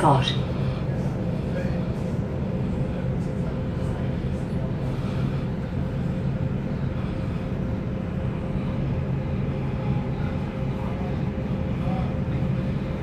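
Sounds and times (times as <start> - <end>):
thin steady whine: 0.0 - 13.0
train running rumble: 0.0 - 13.0.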